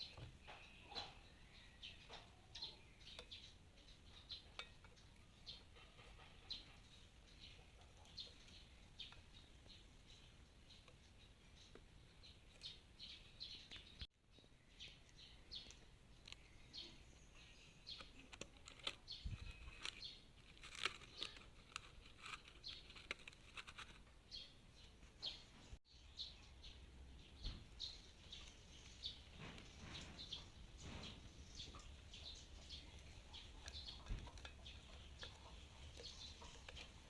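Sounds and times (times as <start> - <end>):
faint birds chirping: 0.0 - 37.0.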